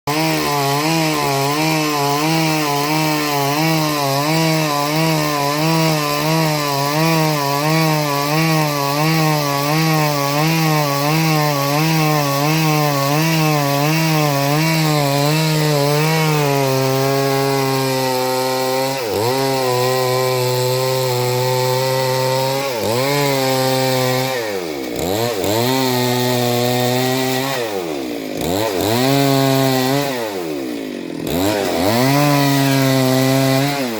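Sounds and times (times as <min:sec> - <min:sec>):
chainsaw running at high revs: 0:00.0 - 0:33.9.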